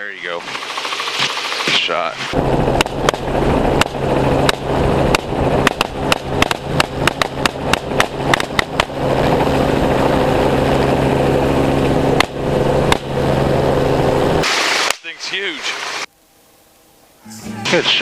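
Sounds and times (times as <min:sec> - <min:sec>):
helicopter engine and rotor: 0:00.0 - 0:14.4.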